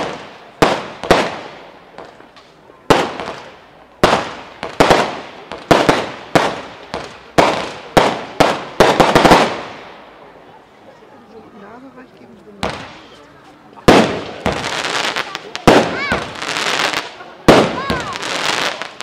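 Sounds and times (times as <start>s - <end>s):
firework bangs with crackle: 0.0s - 10.2s, 12.6s - 13.2s, 13.8s - 19.0s.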